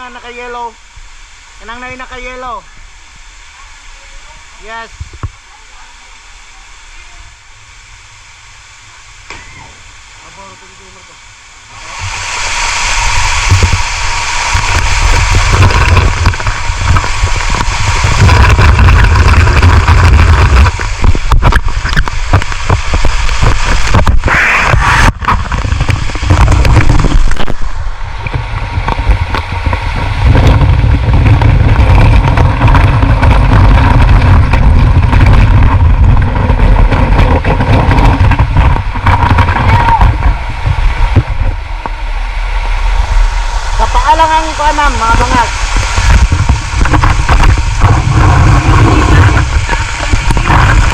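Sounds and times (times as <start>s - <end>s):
rushing splashing water: 0.0s - 50.9s
heavy low rumble: 9.8s - 50.9s.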